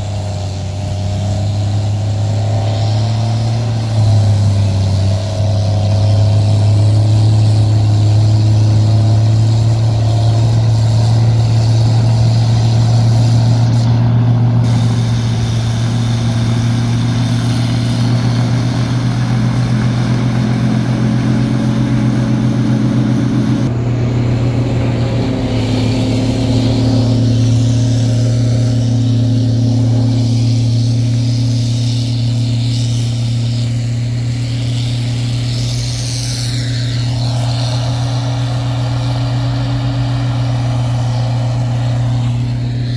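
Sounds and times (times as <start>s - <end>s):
heavy diesel engine drone: 0.0s - 42.9s.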